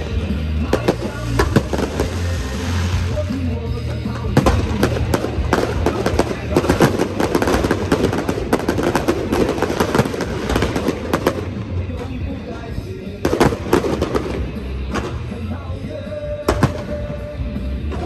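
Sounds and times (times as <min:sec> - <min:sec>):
firework bangs: 0:00.0 - 0:18.0
fireworks crackling: 0:00.0 - 0:18.0
music: 0:00.0 - 0:18.0.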